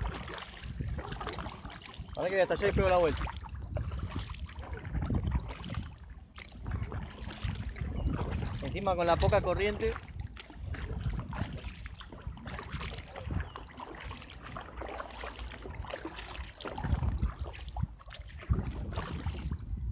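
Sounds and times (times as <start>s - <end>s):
kayak paddle splashing water: 0.0s - 19.8s
wind rumble on microphone: 0.0s - 19.9s.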